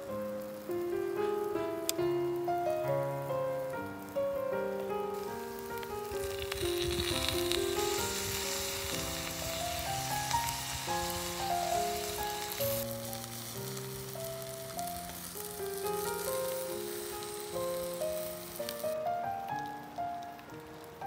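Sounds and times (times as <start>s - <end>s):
meat and onions sizzling: 0.0s - 21.0s
soft background music: 0.0s - 21.0s.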